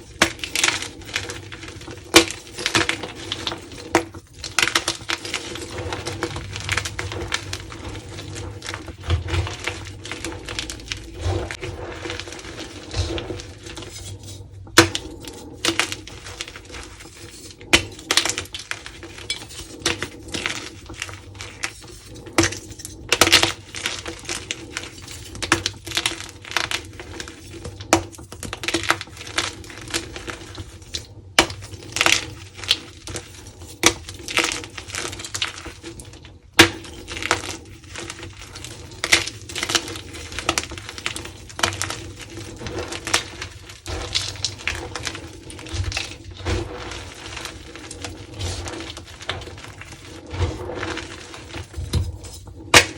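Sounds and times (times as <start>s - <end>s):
chalk blocks crunching: 0.0s - 52.9s.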